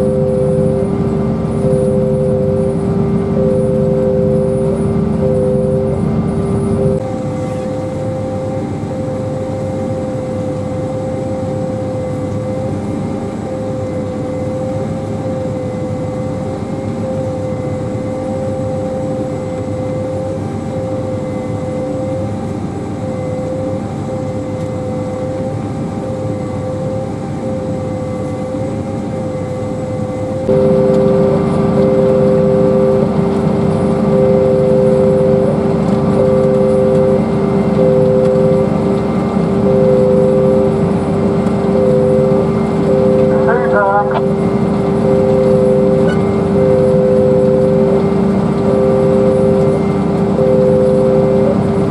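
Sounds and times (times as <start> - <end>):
harvesting machine drone: 0.0 - 51.9
high machine whine: 0.0 - 51.9
lower machine whine: 0.0 - 51.9.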